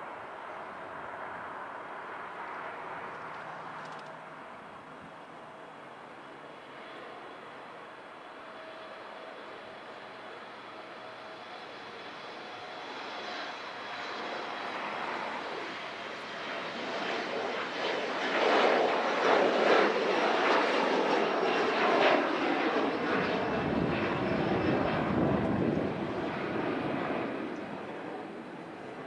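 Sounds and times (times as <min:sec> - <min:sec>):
airplane engines rushing: 0:00.0 - 0:29.0.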